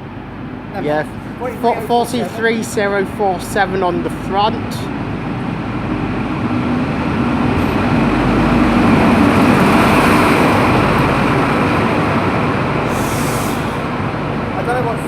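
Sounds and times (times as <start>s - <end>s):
diesel train engine: 0.0s - 15.0s
rail noise: 0.0s - 15.0s.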